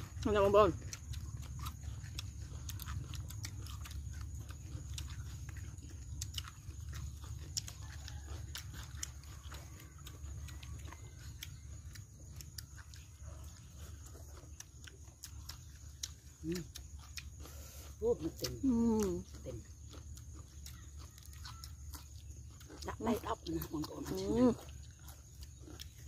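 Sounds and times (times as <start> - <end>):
people chewing and lip-smacking: 0.0 - 26.0.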